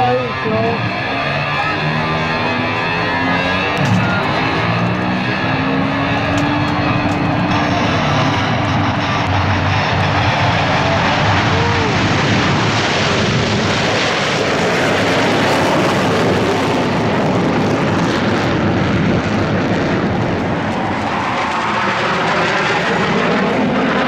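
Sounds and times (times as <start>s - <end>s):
jet aircraft taking off: 0.0s - 24.0s.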